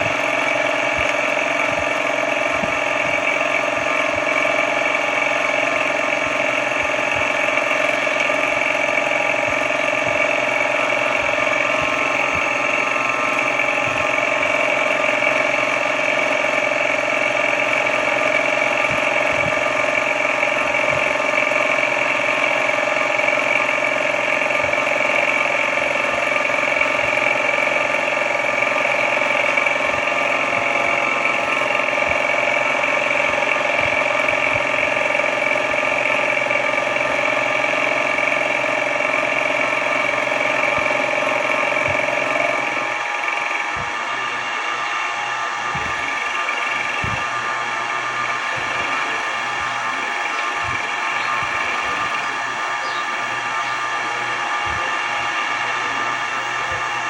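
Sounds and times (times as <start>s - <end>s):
milling machine motor whine: 0.0s - 57.0s.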